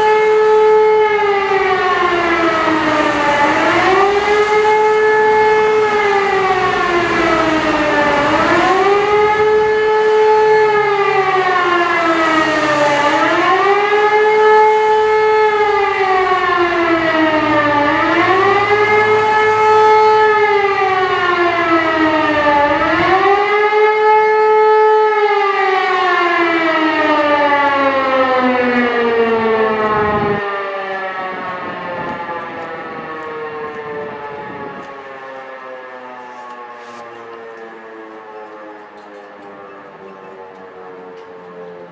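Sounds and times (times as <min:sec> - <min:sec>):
warning siren wailing: 0:00.0 - 0:41.9.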